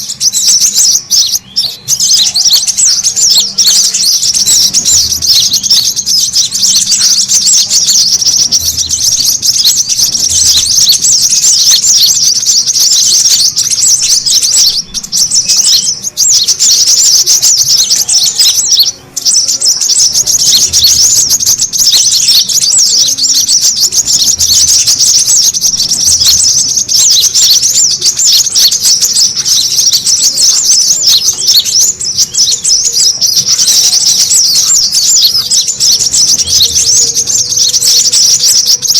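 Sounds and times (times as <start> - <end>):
bird chips and twitters: 0.0 - 38.9.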